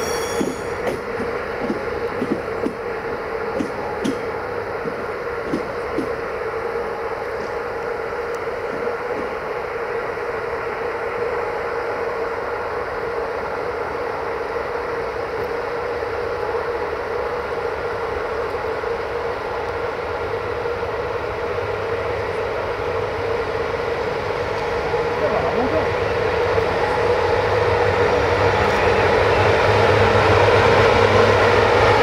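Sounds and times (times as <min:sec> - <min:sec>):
electric locomotive humming: 0:00.0 - 0:32.0.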